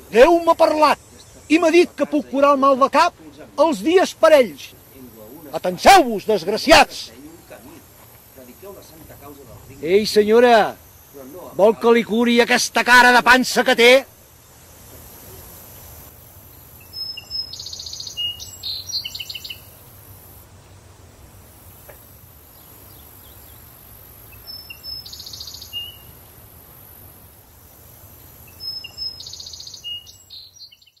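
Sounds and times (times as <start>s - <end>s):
songbird chirping: 0.0s - 20.8s, 21.8s - 31.0s
outdoor background noise: 0.0s - 31.0s.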